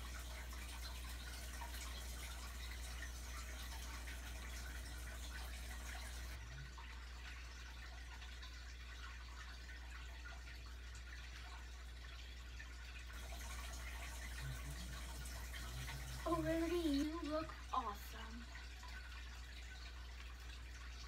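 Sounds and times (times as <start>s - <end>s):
aquarium filter hum: 0.0s - 21.0s
water trickling: 0.0s - 21.0s.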